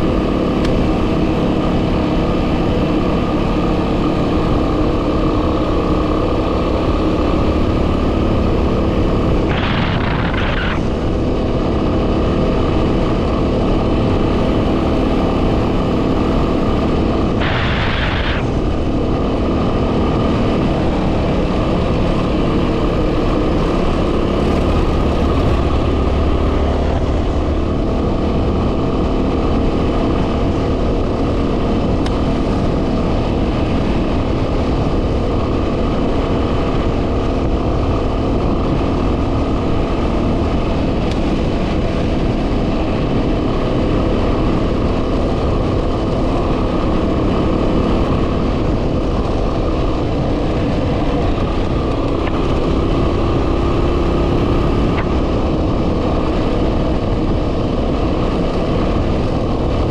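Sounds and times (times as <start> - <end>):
motorcycle engine running: 0.0 - 59.9
wind noise on microphone: 0.0 - 59.9.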